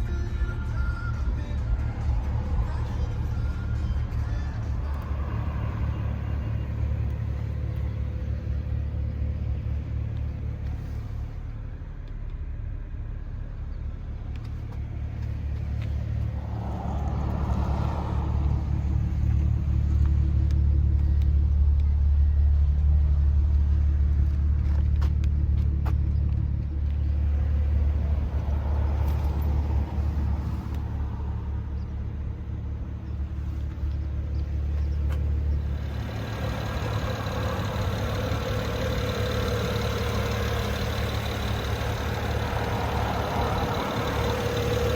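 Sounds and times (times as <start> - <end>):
car engine low rumble: 0.0 - 44.9.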